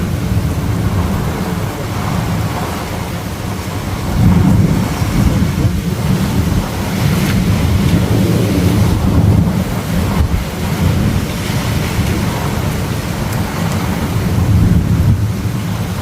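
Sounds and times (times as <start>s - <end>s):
rain: 0.0s - 16.0s
thunder rumbling: 0.0s - 16.0s
wind: 0.0s - 16.0s.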